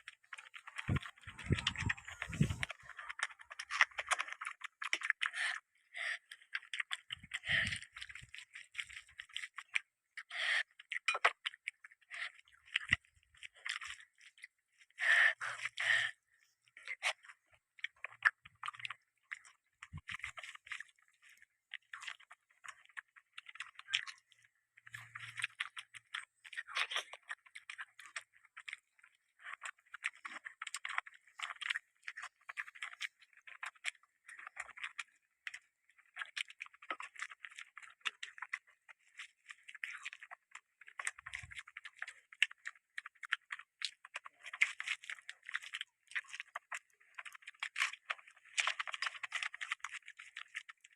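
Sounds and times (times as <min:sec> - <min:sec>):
close-miked chewing of food: 0:00.0 - 0:50.9.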